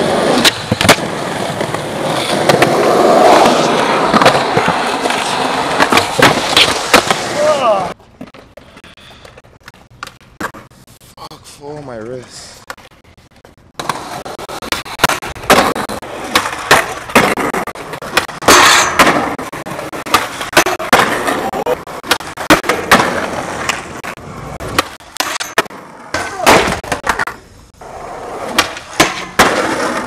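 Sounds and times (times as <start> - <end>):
skateboard clacking and landing: 0.0 - 8.6, 13.8 - 27.5, 28.2 - 30.0
skateboard wheels rolling on concrete: 0.0 - 30.0.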